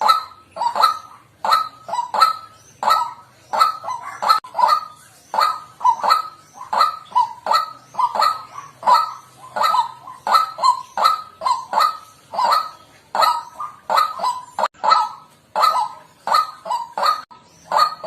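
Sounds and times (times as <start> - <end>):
waterhen calling: 0.0 - 18.0.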